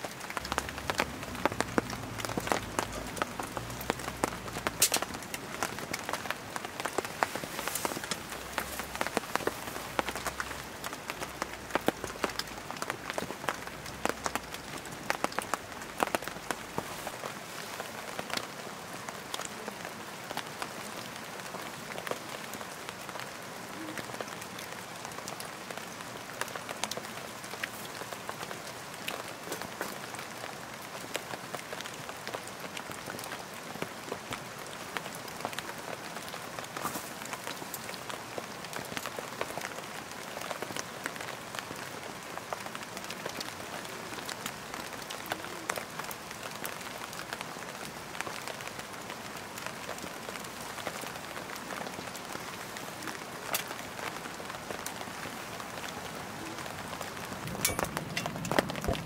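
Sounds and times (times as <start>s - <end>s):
rain falling on a tent: 0.0s - 59.0s.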